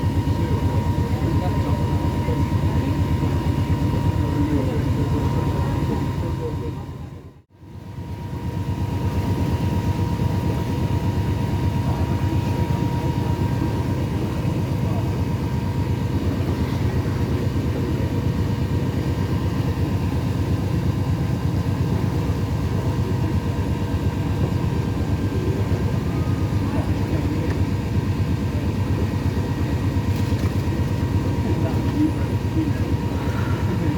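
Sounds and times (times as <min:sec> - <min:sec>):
boat engine rumbling: 0:00.0 - 0:07.4, 0:08.5 - 0:33.9.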